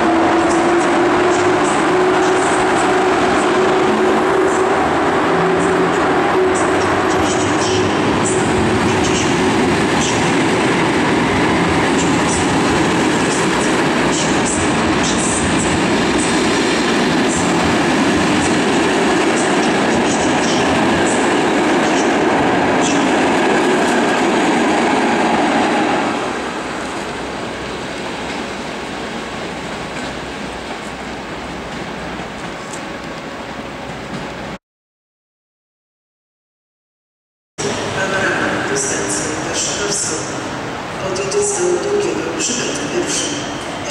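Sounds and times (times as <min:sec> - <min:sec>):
train coaches rumbling past: 0:00.0 - 0:34.6, 0:37.6 - 0:43.9.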